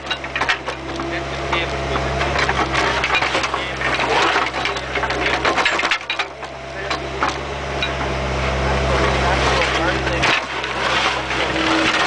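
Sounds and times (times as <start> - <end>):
stones rattling against steel bucket: 0.0 - 8.2, 8.9 - 12.0
excavator bucket scraping stones: 0.0 - 12.0
excavator engine hum: 0.0 - 12.0.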